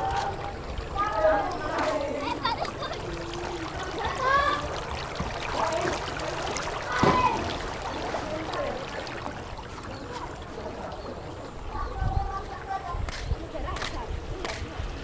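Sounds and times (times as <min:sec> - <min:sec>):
water flowing in a channel: 0:00.0 - 0:15.0.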